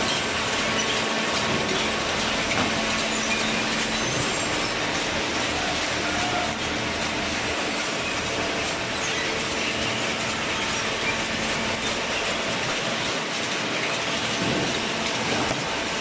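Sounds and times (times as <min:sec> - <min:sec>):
metal conveyor clattering: 0:00.0 - 0:16.0.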